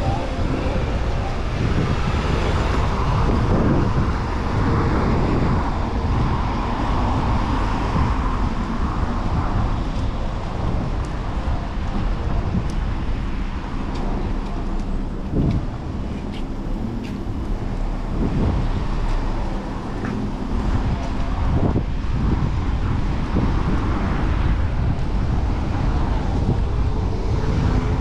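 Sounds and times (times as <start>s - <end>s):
city traffic: 0.0s - 28.0s
wind on microphone: 0.0s - 28.0s.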